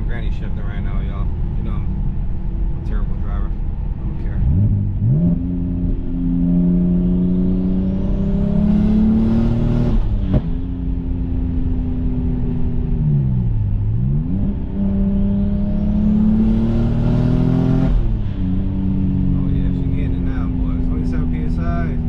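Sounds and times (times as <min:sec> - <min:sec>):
turbo car engine revving with whine: 0:00.0 - 0:22.0.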